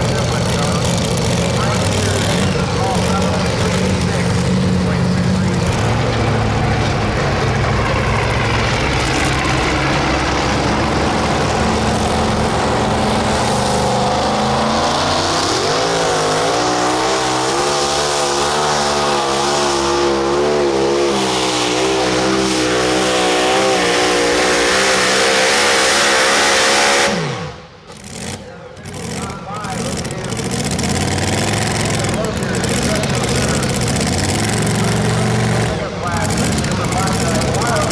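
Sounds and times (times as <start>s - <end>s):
pulling truck engine under load: 0.0s - 37.9s.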